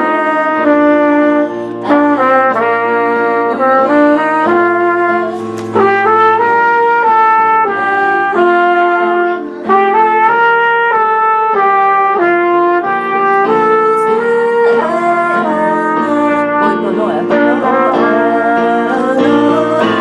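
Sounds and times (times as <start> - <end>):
brass ensemble playing chords: 0.0 - 20.0.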